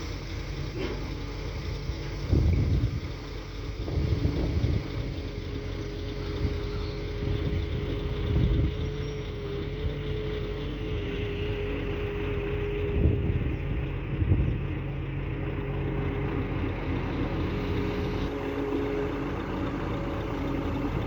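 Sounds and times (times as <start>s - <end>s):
excavator running: 0.0s - 21.0s.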